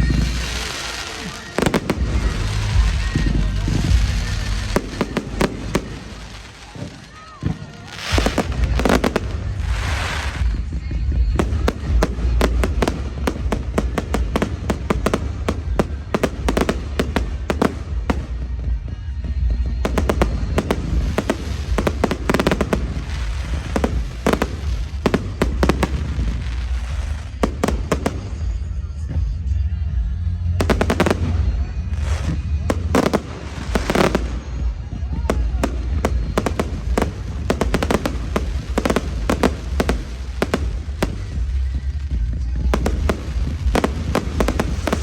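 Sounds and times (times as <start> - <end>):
firework bangs and bursts: 0.0 - 45.0
music playing: 0.0 - 45.0.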